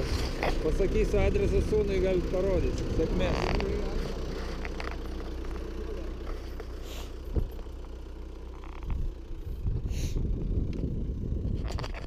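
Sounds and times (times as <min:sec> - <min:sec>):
engine clatter: 0:00.0 - 0:12.0
engine running steadily: 0:00.0 - 0:12.0.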